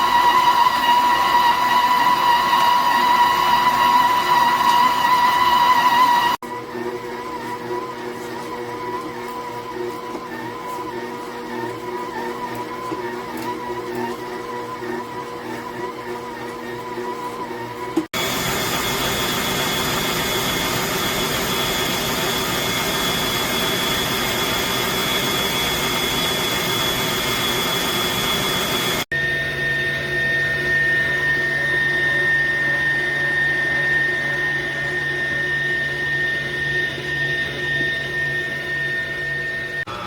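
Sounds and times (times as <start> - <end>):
stand mixer motor whining: 0.0 - 40.0.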